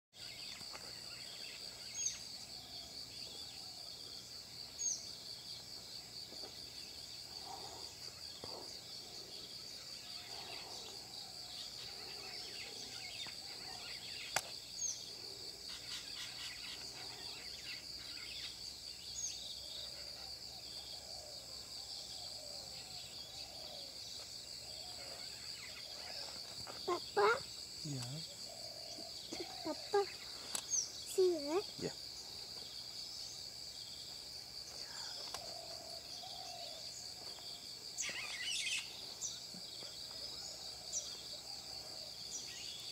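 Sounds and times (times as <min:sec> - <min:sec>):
insects pulsing chorus: 0:00.2 - 0:42.9
distant bird phrases: 0:06.6 - 0:42.9.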